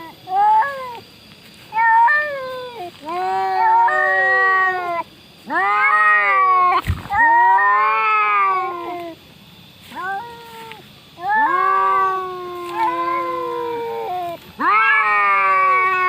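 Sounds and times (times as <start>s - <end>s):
cats yowling: 0.0s - 9.2s, 9.8s - 16.0s.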